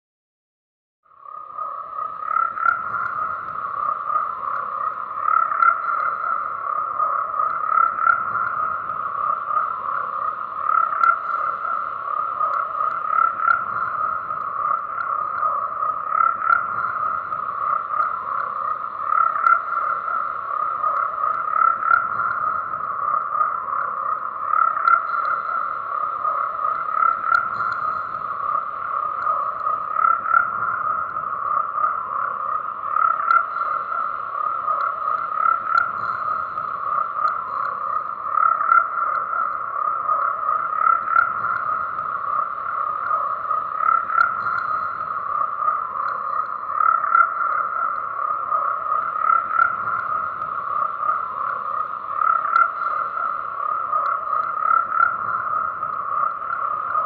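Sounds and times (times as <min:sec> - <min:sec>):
frogs croaking: 0:01.0 - 0:57.0.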